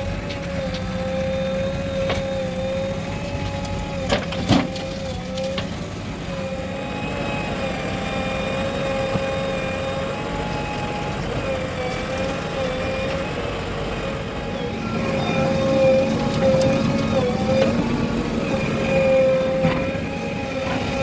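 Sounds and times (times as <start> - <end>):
heavy diesel machinery rumbling: 0.0 - 21.0.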